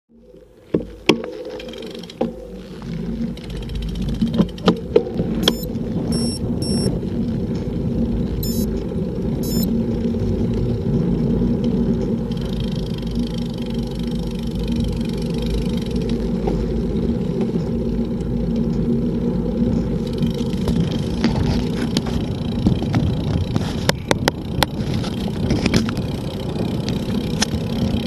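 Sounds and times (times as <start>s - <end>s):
bicycle tyres rumbling on asphalt: 0.1s - 28.0s.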